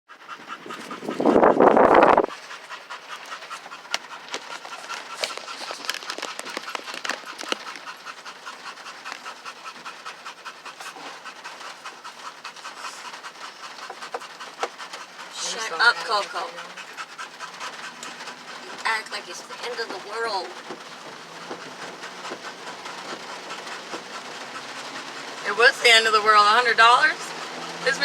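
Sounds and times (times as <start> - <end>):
dog panting: 0.1 - 28.0.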